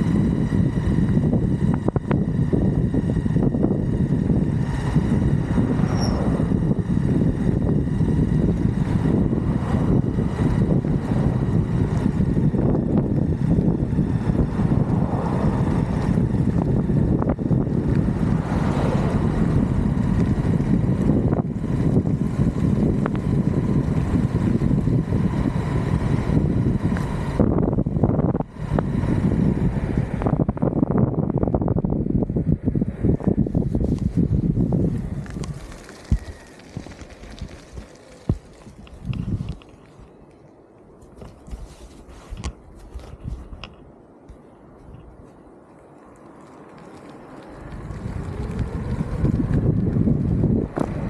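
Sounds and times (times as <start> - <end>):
wind on microphone: 0.0 - 40.1, 41.0 - 43.9, 47.2 - 51.0
skateboard wheels rumbling: 0.0 - 51.0.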